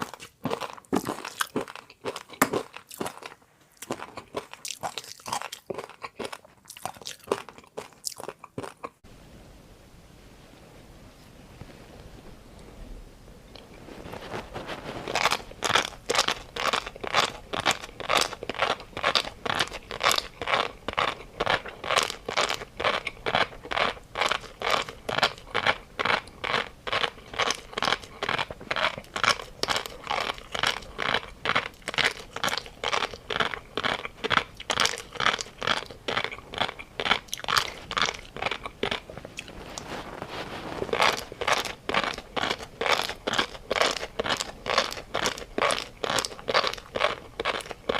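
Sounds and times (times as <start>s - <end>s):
chewing crunchy food: 0.0s - 9.0s, 13.5s - 47.9s.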